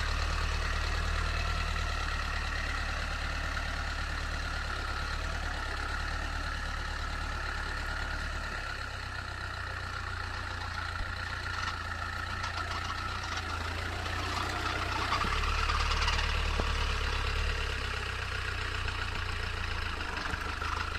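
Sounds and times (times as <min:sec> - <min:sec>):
vehicle engine running: 0:00.0 - 0:20.9.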